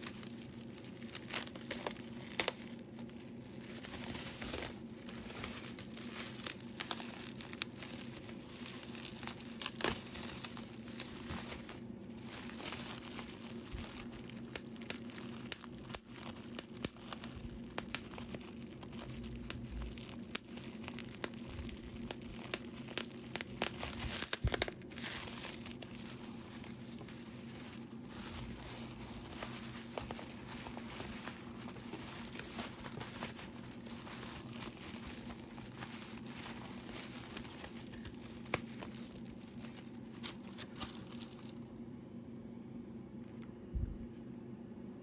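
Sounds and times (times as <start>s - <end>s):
packaging crinkling and tearing: 0.0s - 41.7s.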